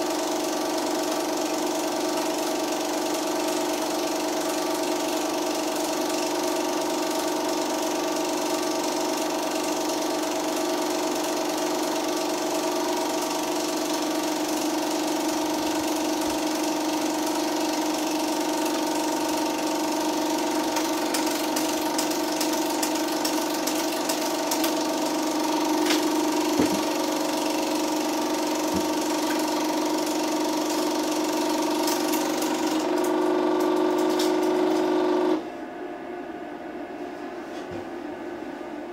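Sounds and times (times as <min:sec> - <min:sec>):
film projector running: 0:00.0 - 0:35.5.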